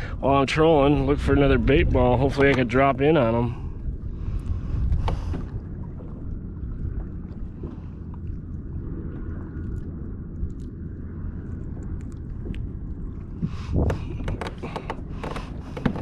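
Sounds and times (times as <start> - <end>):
water around a kayak: 0.0 - 16.0
wind: 0.0 - 16.0.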